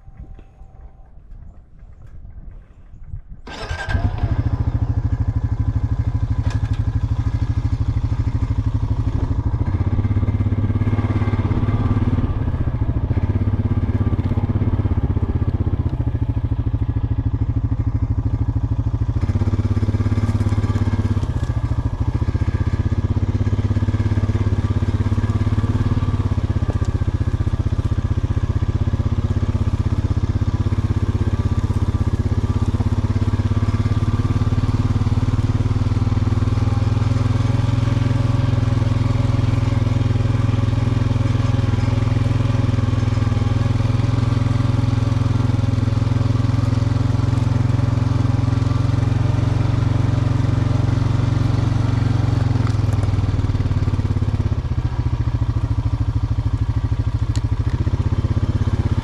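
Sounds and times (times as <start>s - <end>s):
vehicle engine driving: 0.0s - 59.0s.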